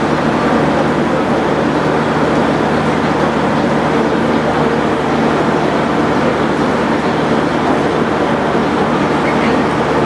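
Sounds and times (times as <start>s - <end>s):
diesel railcar idling: 0.0s - 10.0s.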